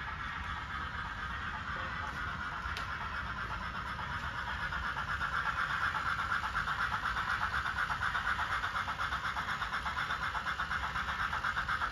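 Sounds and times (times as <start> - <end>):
model train running rhythmically: 0.0 - 11.9.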